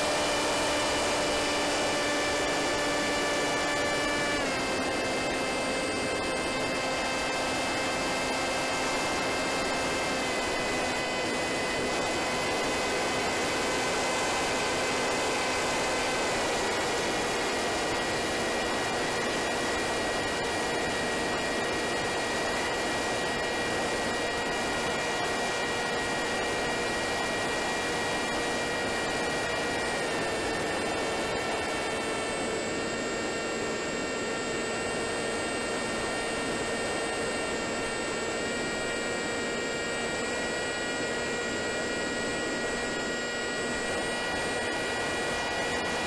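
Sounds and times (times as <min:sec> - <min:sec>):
electric motor propeller whine: 0:00.0 - 0:46.0.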